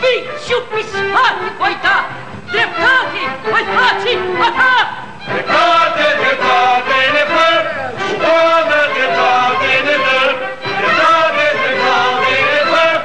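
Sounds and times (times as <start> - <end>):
group singing with music: 0.8 - 13.0.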